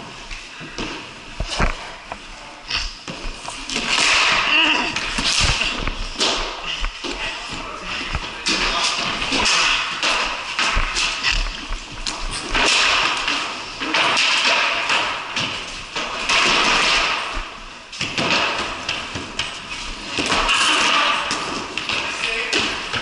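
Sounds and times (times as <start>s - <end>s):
hockey sticks tapping ball: 0.3s - 23.0s.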